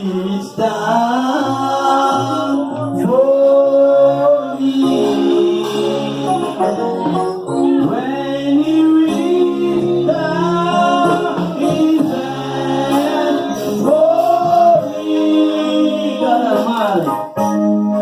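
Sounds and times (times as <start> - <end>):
other voices singing: 0.0 - 17.0
man singing hymn: 0.0 - 17.1
sustained keyboard chords: 0.0 - 18.0.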